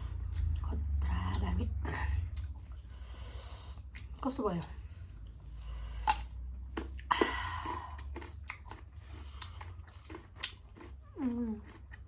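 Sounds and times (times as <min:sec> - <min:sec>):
close-up chewing: 0:00.0 - 0:01.5, 0:02.2 - 0:12.0
low steady hum: 0:00.0 - 0:12.0.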